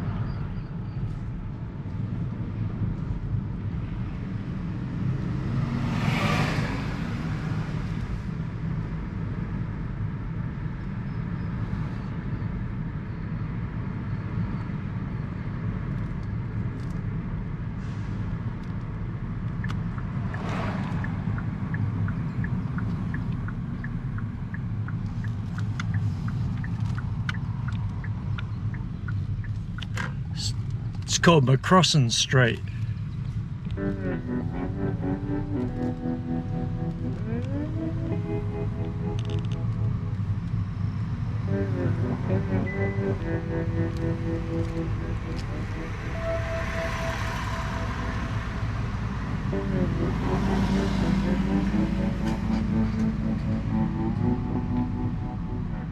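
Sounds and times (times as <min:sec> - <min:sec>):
car engine and road rumble: 0:00.0 - 0:55.9
vehicles passing with whoosh: 0:00.0 - 0:55.9.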